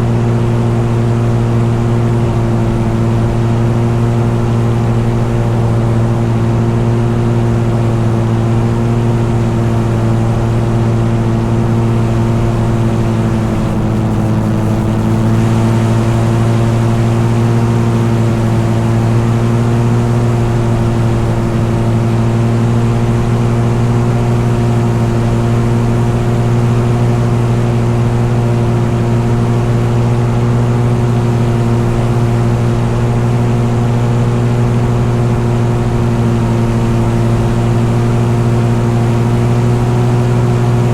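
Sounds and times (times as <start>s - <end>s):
engine droning steadily: 0.0s - 40.9s.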